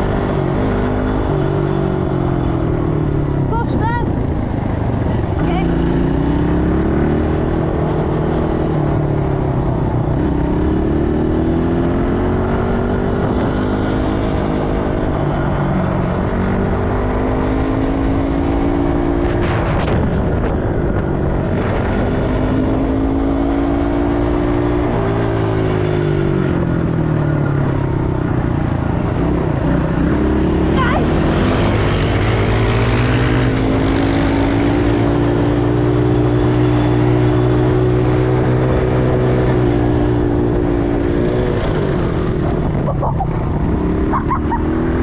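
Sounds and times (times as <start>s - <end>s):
quad bike engine running: 0.0s - 45.0s.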